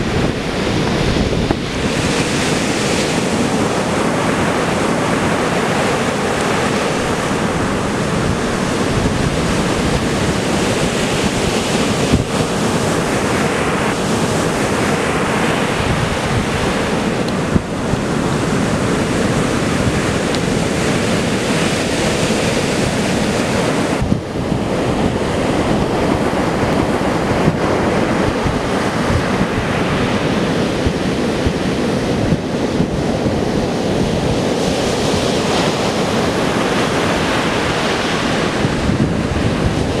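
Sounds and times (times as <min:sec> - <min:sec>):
storm surf breaking on beach: 0:00.0 - 0:40.0
wind buffeting microphone: 0:00.0 - 0:40.0.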